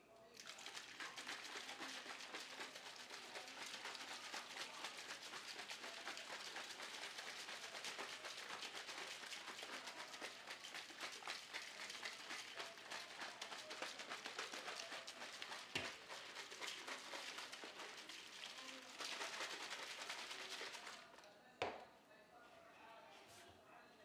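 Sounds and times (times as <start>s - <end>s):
drink sloshing in shaker bottle: 0.4s - 21.8s.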